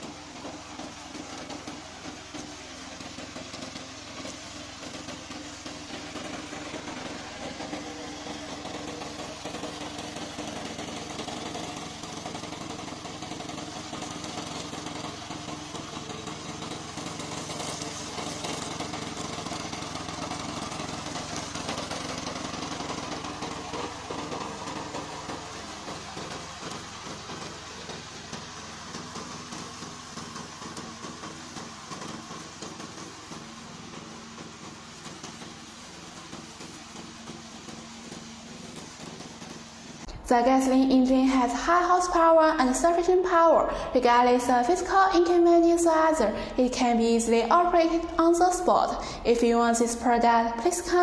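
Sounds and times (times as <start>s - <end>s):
gasoline mower engine running: 0.0s - 51.0s.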